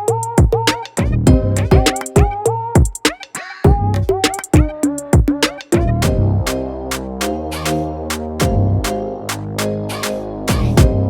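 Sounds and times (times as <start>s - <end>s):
electronic beat with synth notes: 0.0s - 11.0s.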